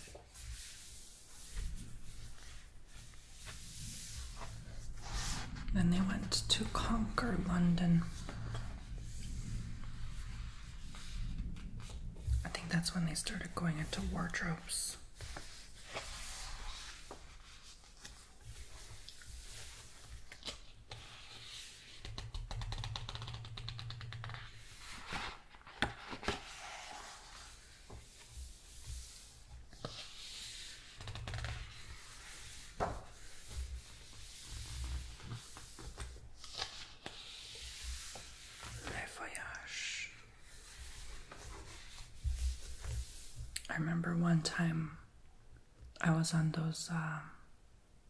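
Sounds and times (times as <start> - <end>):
book pages rustling: 0.0 - 43.6.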